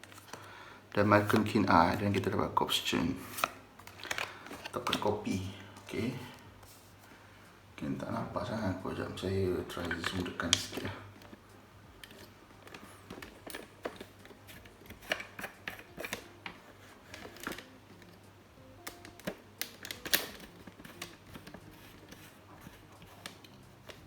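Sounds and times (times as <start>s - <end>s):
cards and packaging handled: 0.0s - 7.1s, 8.0s - 24.0s.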